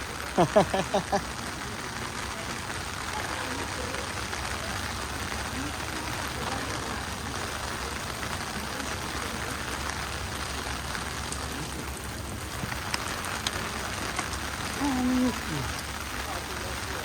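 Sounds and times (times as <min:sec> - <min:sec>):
pouring rain: 0:00.0 - 0:17.0.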